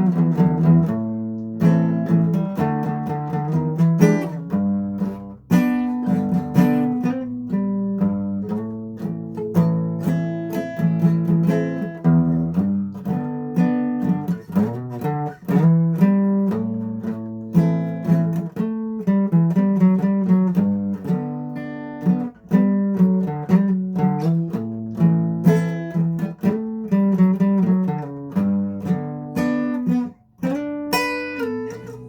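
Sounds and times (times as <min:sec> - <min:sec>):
acoustic guitar: 0:00.0 - 0:32.0.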